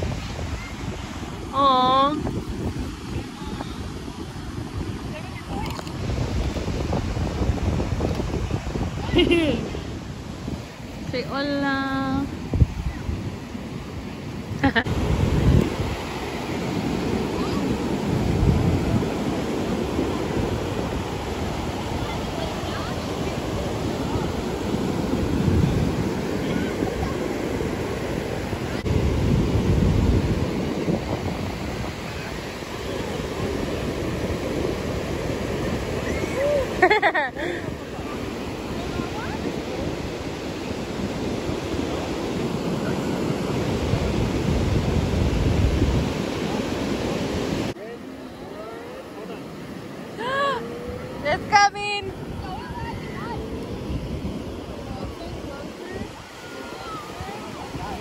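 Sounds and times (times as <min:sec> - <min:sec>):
ocean surf breaking on beach: 0:00.0 - 0:58.0
wind rumbling on microphone: 0:00.0 - 0:58.0.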